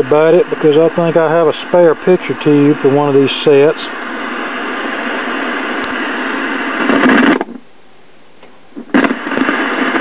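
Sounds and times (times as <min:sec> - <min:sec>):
tv static hiss: 0:00.0 - 0:10.0.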